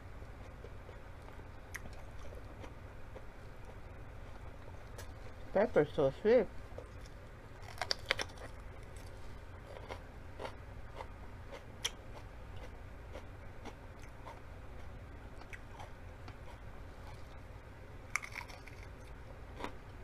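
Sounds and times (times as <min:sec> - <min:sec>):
crunchy chewing of pepper: 0:00.2 - 0:05.5, 0:06.8 - 0:17.5, 0:18.1 - 0:19.9.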